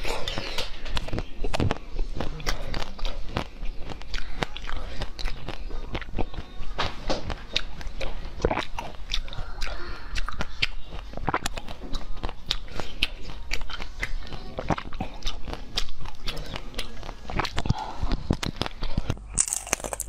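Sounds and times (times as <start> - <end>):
chewing crunchy jelly candies: 0.0 - 20.0.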